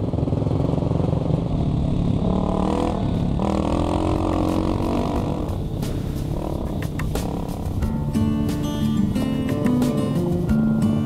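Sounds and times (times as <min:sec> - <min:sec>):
dirt bike engine accelerating: 0:00.0 - 0:10.6.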